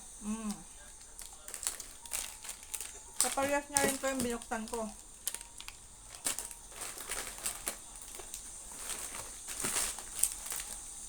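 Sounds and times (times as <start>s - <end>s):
wrappers crinkling and rustling: 0.3s - 11.0s.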